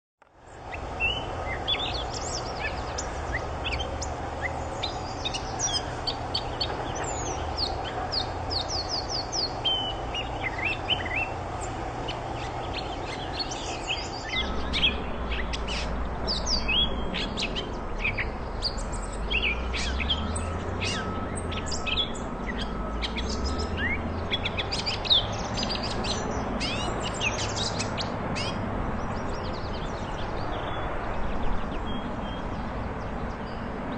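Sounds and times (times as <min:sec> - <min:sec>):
bird singing varied chirps: 0:00.5 - 0:33.8.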